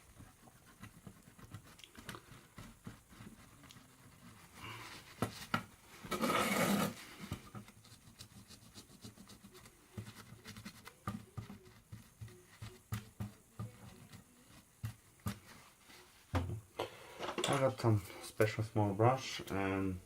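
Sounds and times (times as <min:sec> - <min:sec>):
paper rubbing and scratching: 0:00.0 - 0:16.2.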